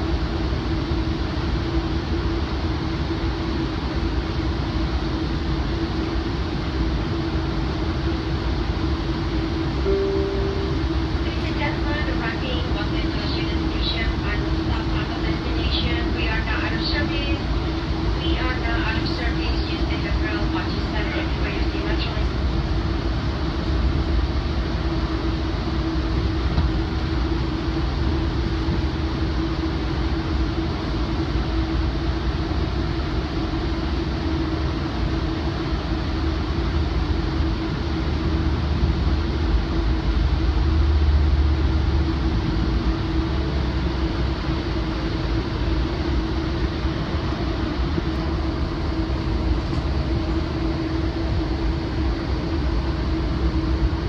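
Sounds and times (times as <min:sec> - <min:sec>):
steady hum: 0:00.0 - 0:54.0
train rumble: 0:00.0 - 0:54.0.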